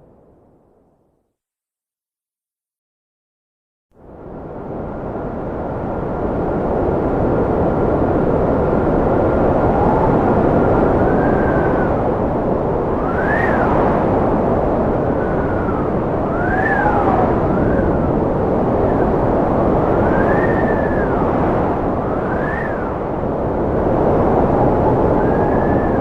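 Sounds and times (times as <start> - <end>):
cold wind rushing: 4.0 - 26.0
wind whistling: 4.2 - 26.0.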